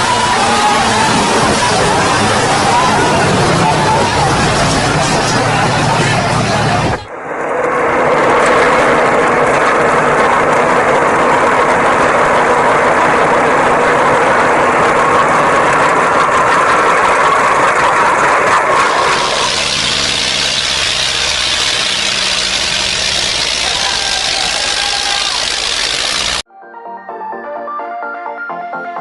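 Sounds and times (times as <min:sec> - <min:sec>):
tractor engine running hard: 0:00.0 - 0:07.1, 0:07.8 - 0:26.4.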